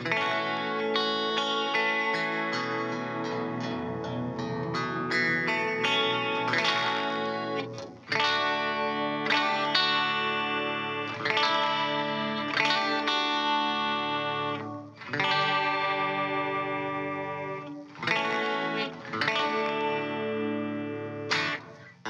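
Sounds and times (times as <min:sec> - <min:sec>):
electric guitar chords ringing: 0:00.0 - 0:22.0.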